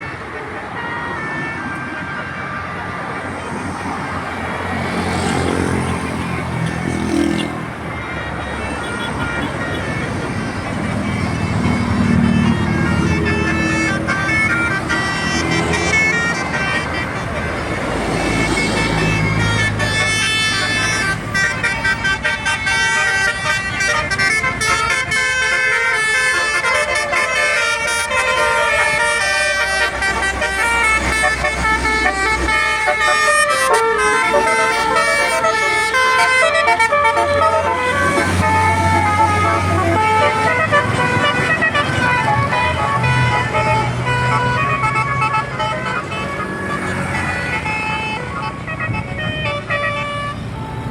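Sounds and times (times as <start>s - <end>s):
bus engine rumbling: 0.0s - 50.9s.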